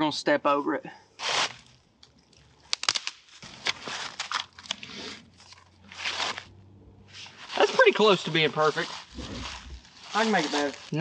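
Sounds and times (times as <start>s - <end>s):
dry leaves crunching: 1.2s - 1.8s, 2.7s - 11.0s
leaves rustling: 1.2s - 11.0s
twigs crackling: 1.2s - 11.0s.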